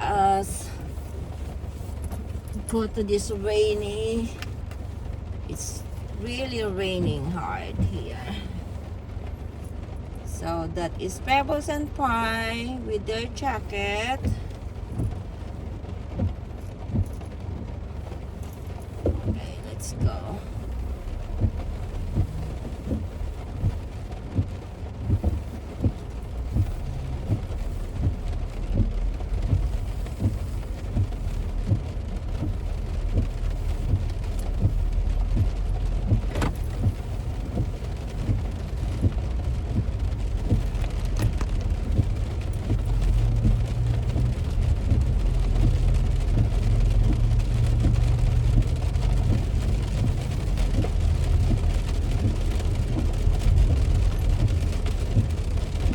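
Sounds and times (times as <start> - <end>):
heavy rain striking a car: 0.0 - 55.9
low rumble of car on road: 0.0 - 55.9.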